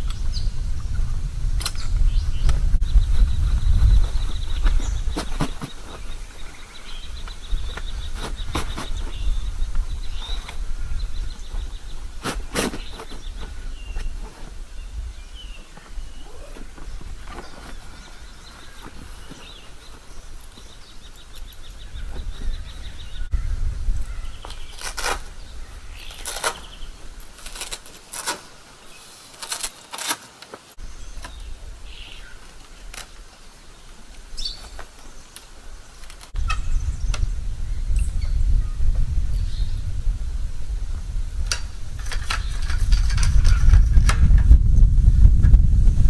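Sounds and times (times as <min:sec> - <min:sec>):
wind rumble on microphone: 0:00.0 - 0:27.7, 0:30.8 - 0:34.8, 0:35.6 - 0:46.0
birds calling: 0:00.0 - 0:39.9, 0:41.5 - 0:44.1
awning poles rustling and clicking: 0:01.6 - 0:23.3, 0:24.0 - 0:37.3, 0:41.4 - 0:44.6.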